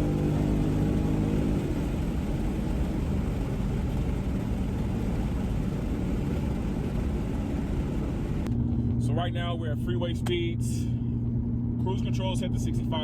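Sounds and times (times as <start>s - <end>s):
car exhaust rumble: 0.0s - 13.0s
road noise: 0.0s - 13.0s.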